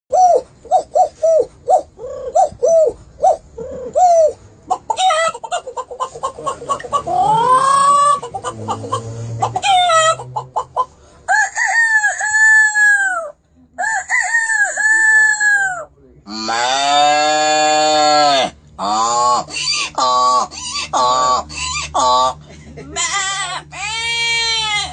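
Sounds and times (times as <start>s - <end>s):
man imitating chickens: 0.1s - 24.9s.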